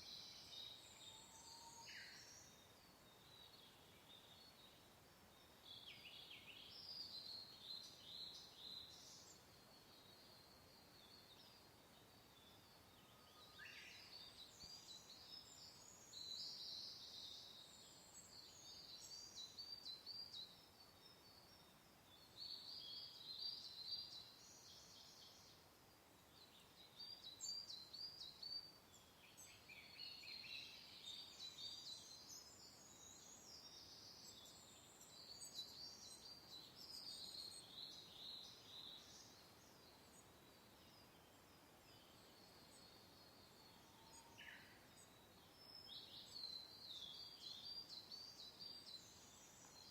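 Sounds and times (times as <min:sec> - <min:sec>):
gentle wind hiss: 0:00.0 - 0:49.9
small songbirds chirping: 0:00.0 - 0:49.9.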